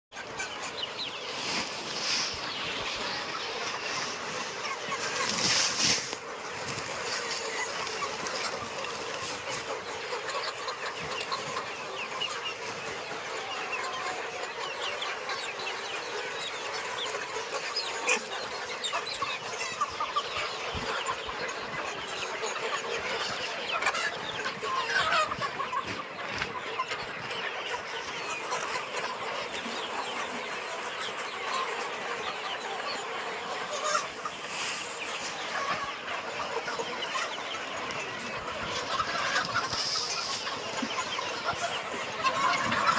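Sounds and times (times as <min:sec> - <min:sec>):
flock of chickens clucking: 0:00.1 - 0:42.9
chicken squawks: 0:00.2 - 0:42.9.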